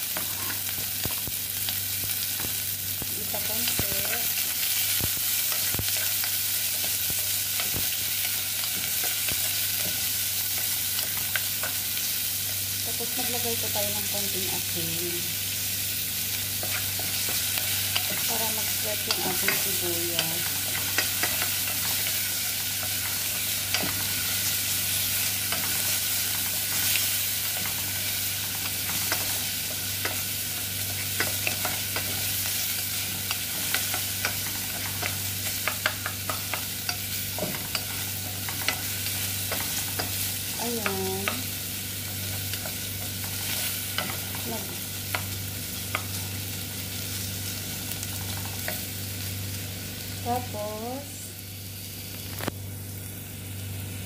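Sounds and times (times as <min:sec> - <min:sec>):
onion sizzling in oil: 0:00.0 - 0:54.0.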